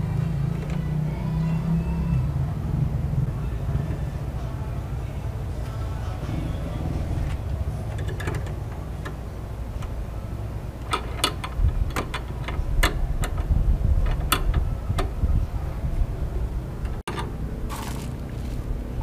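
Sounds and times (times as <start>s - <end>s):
steady low rumble: 1.9s - 19.0s.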